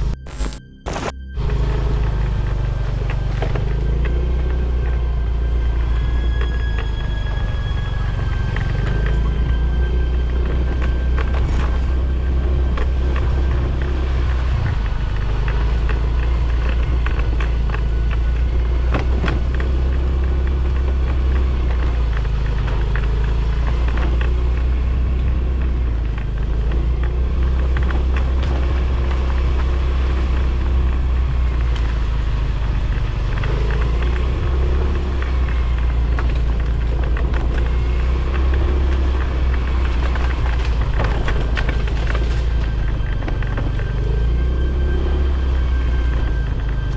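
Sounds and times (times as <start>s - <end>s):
motorcycle engine rumbling: 0.0s - 46.9s
knocks over rough ground: 8.4s - 46.9s.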